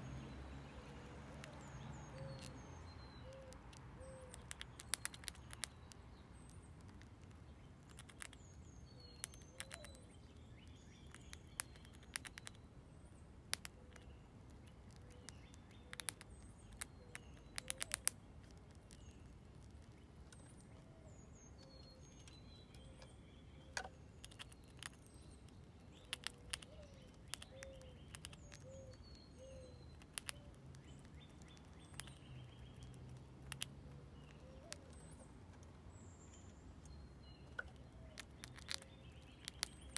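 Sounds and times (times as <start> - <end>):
faint bird chirps: 0.0 - 6.7, 7.5 - 35.3
squirrel gnawing corn: 0.1 - 20.9, 21.5 - 39.9.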